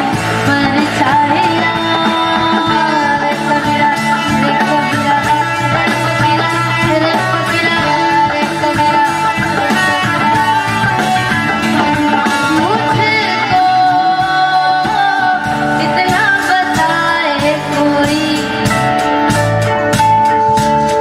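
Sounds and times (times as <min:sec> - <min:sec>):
boy singing into a microphone: 0:00.0 - 0:18.8
drums playing a steady beat: 0:00.0 - 0:21.0
guitar: 0:00.0 - 0:21.0.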